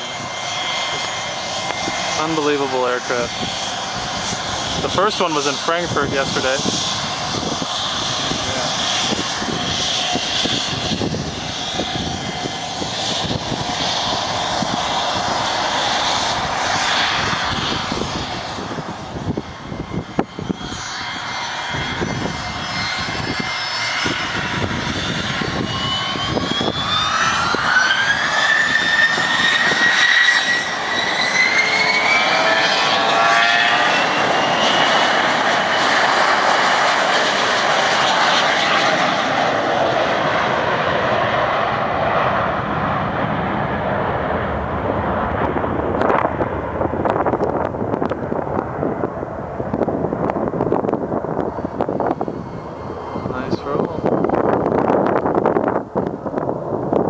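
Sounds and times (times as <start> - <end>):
jet engines spooling up: 0.0 - 57.0.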